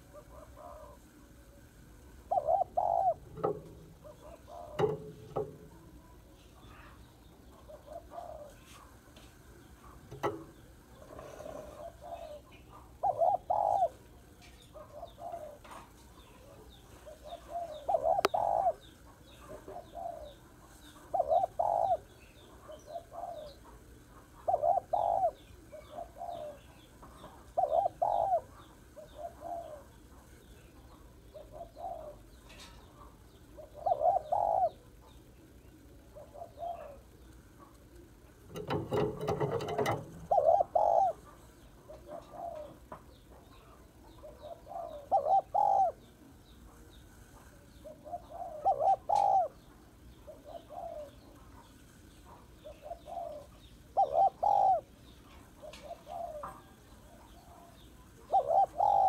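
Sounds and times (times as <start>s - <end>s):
dove cooing: 0.0s - 9.0s, 9.6s - 59.0s.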